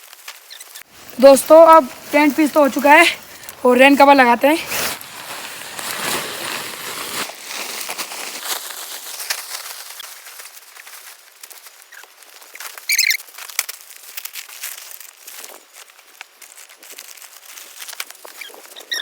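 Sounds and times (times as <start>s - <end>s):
nylon tent cover rustling: 0.0s - 19.0s.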